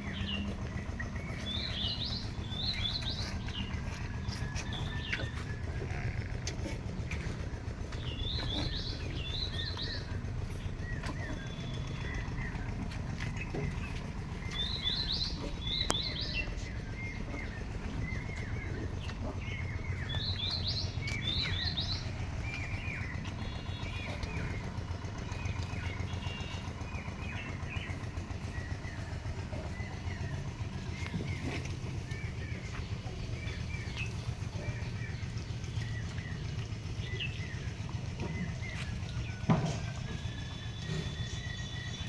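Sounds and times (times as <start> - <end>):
low background rumble: 0.0 - 42.0
small birds chirping: 0.0 - 42.0.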